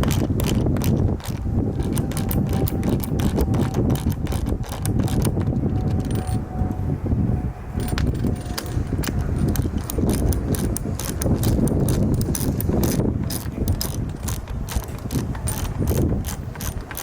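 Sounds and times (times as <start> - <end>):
ratchet wrench clicking: 0.0 - 6.4, 7.8 - 17.0.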